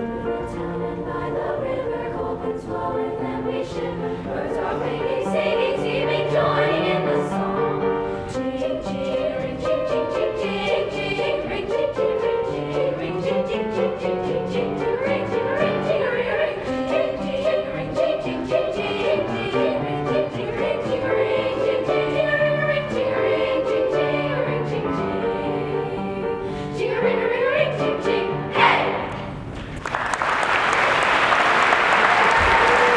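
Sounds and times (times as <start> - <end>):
girls' choir singing in parts: 0.0 - 29.3
upright piano: 0.0 - 29.6.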